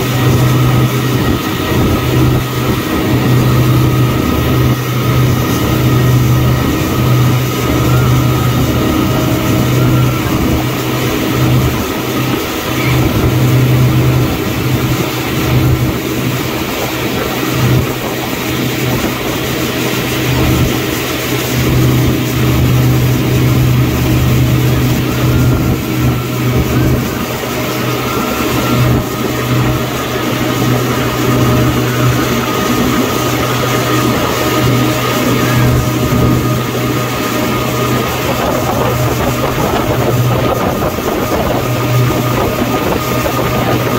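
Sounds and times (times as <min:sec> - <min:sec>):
churning water rushing: 0:00.0 - 0:43.9
motorboat engine hum: 0:00.0 - 0:43.9.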